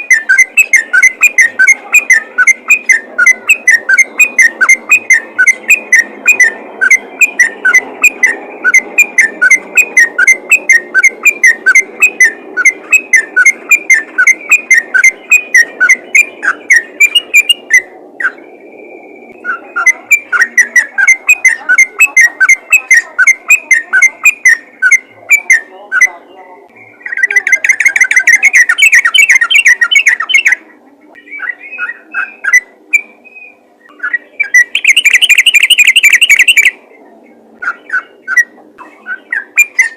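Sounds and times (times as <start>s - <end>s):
bulbul rapid whistled calls: 0.0s - 36.9s, 37.6s - 39.9s.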